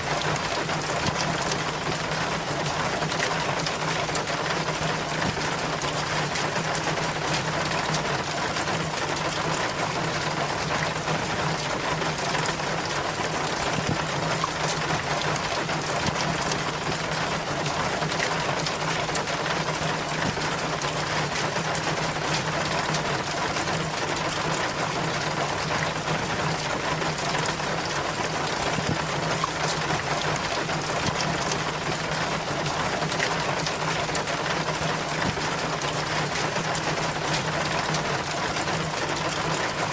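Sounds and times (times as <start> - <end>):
water splashing down rain chain: 0.0 - 39.9.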